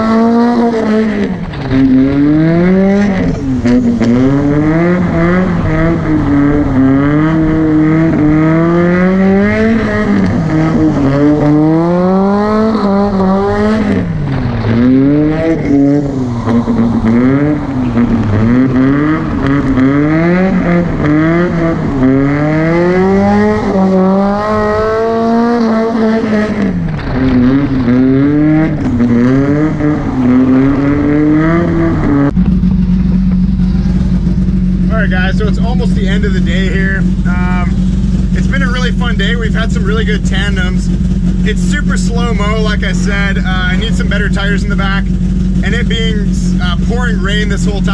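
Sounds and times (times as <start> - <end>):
car engine revving hard: 0.0 - 47.9.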